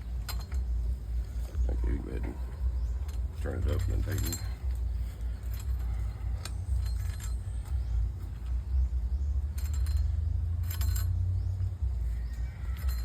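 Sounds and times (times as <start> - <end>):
metal tools clinking on pipe fittings: 0.0 - 8.5, 9.4 - 11.4, 12.2 - 13.0
low rumble: 0.0 - 13.0.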